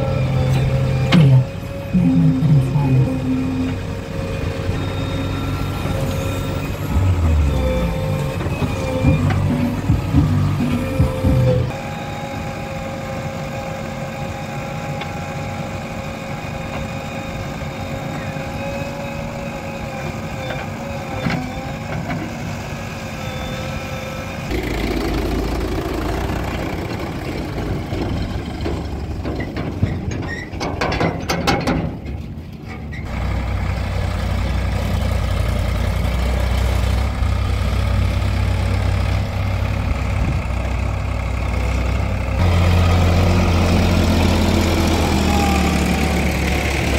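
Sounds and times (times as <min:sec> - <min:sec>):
deep tractor engine drone: 0:00.0 - 0:46.9
diesel engines running: 0:00.0 - 0:46.9.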